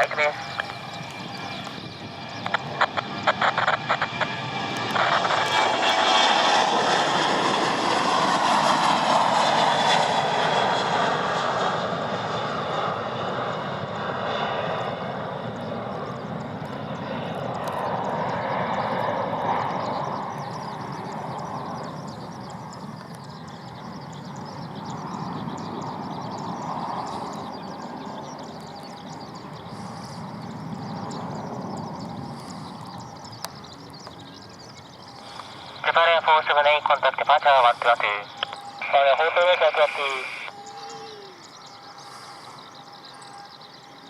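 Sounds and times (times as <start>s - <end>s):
jet airliner engines at takeoff: 0.0s - 44.0s.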